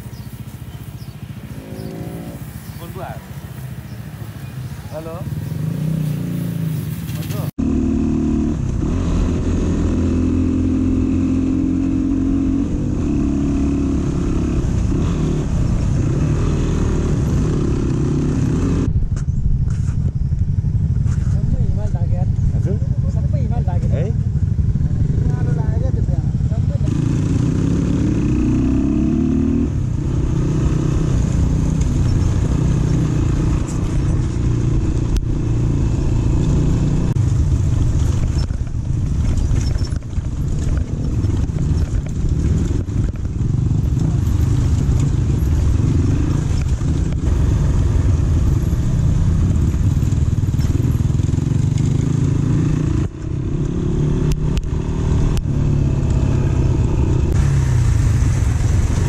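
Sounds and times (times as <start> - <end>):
dirt bike engine revving: 1.0 - 3.9, 4.5 - 18.9, 26.5 - 38.4, 40.4 - 59.0.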